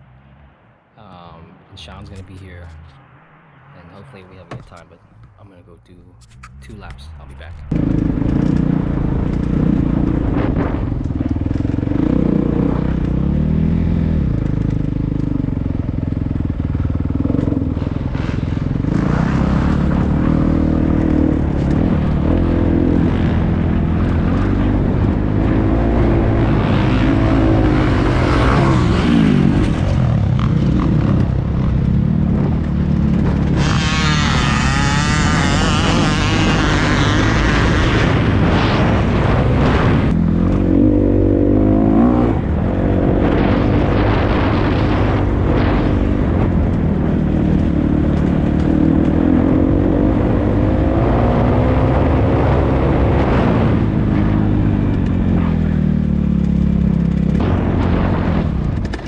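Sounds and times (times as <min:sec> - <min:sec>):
dirt bike engine revving: 0:07.7 - 0:59.0.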